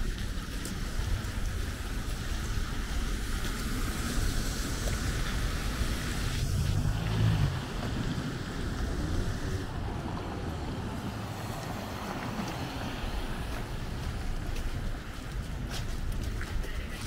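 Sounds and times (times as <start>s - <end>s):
low engine hum: 0.0s - 17.0s
passing vehicles: 0.0s - 17.0s.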